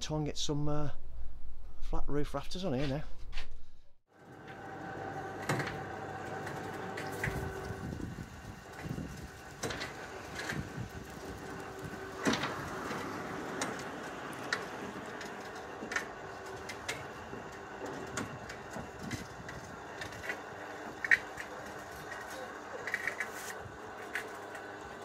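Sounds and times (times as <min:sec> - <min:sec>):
hoist motor hum: 0:04.1 - 0:25.0.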